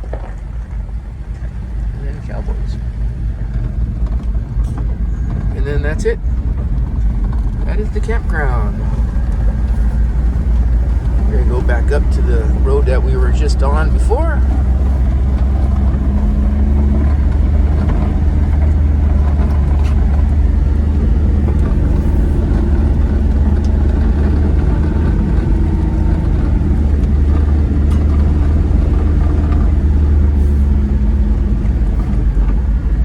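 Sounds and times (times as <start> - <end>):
road noise: 0.0 - 33.0
small truck engine running: 0.0 - 33.0.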